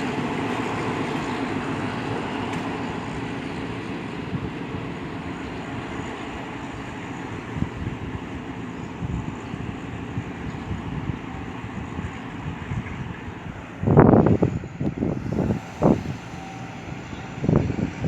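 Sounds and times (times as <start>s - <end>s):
moving vehicle rumble: 0.0s - 18.0s.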